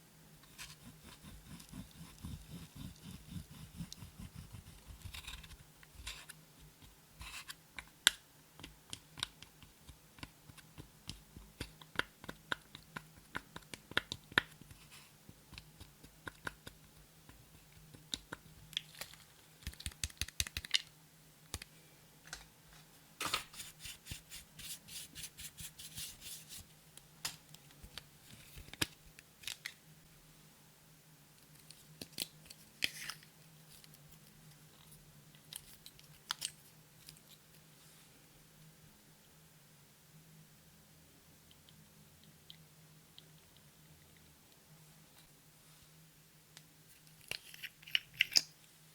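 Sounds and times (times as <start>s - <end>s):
faint low hum: 0.0s - 48.9s.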